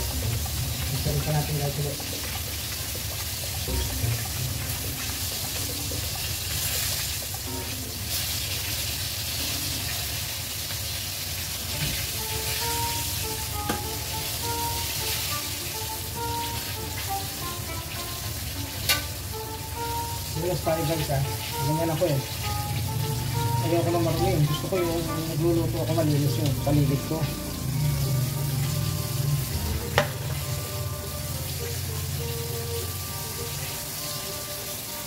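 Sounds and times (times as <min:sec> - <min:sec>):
light background music: 0:00.0 - 0:35.0
meat deep-frying in oil: 0:00.0 - 0:35.0.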